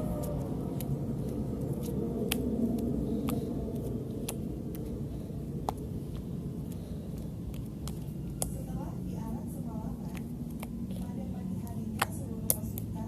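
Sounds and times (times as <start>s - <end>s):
low background rumble: 0.0s - 13.0s
slime kneaded by hand: 0.0s - 13.0s.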